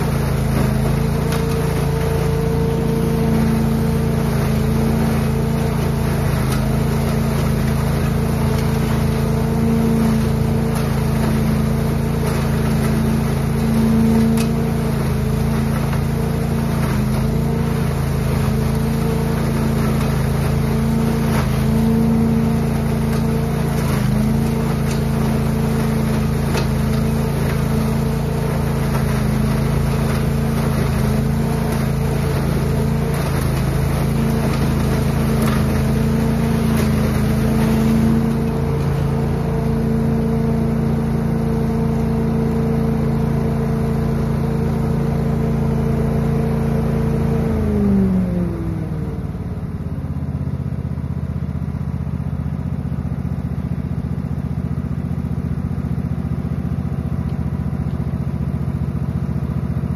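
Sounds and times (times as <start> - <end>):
leaves rattling through hose: 0.0 - 48.5
leaf vacuum engine drone: 0.0 - 59.9.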